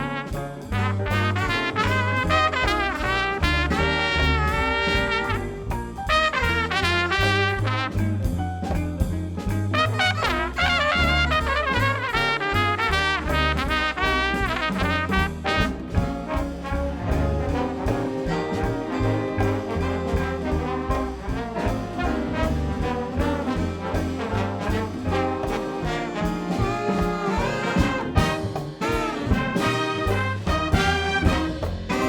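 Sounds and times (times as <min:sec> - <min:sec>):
trumpets and trombones: 0:00.0 - 0:08.4, 0:09.7 - 0:32.0
big band swing jazz: 0:00.0 - 0:32.0.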